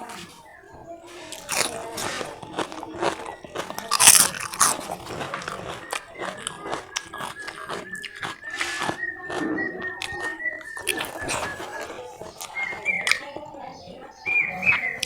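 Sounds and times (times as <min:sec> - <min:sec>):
crunching clicks: 0:00.0 - 0:15.0
wet chewing and lip-smacking: 0:00.0 - 0:15.0.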